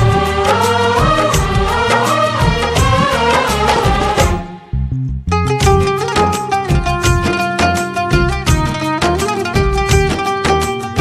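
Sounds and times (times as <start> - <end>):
film song instrumental with beat: 0.0 - 11.0.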